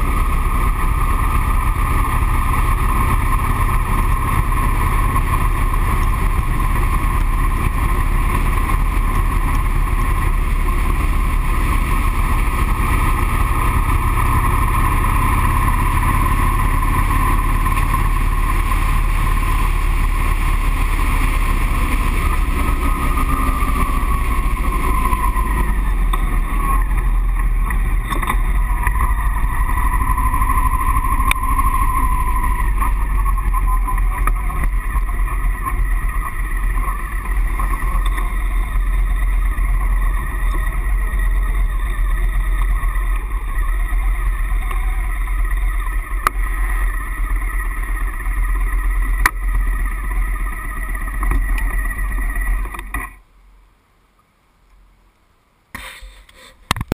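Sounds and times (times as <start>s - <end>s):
motorcycle engine running: 0.0s - 53.2s.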